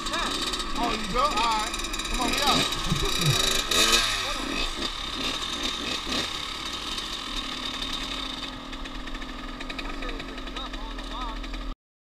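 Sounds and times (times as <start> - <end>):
dirt bike engines whining: 0.0 - 11.8.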